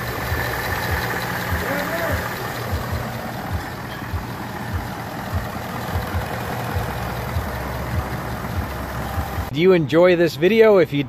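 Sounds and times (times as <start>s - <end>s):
car engine idling: 0.0s - 9.5s.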